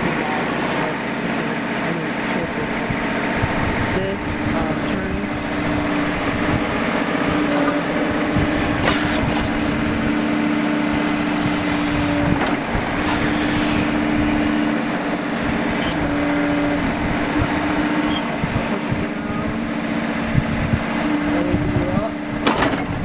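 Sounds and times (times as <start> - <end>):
diesel engine running: 0.0 - 23.0
hydraulic hum: 0.0 - 23.0.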